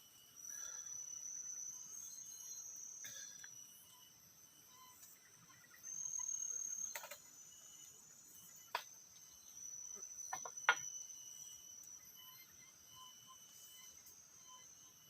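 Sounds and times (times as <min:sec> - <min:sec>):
crickets trilling: 0:00.0 - 0:15.0
faint insect or bird calls: 0:00.0 - 0:15.0.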